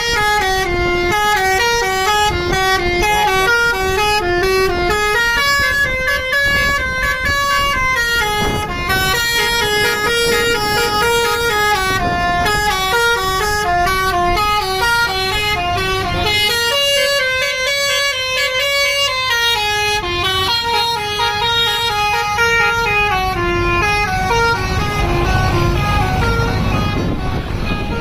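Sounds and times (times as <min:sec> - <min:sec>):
musical bus horn melody: 0:00.0 - 0:28.0.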